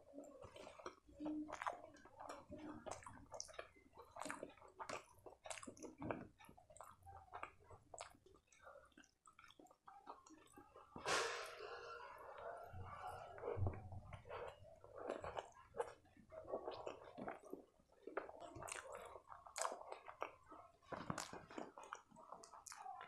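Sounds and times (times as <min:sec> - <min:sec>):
wet chewing and mouth sounds: 0:00.0 - 0:23.0.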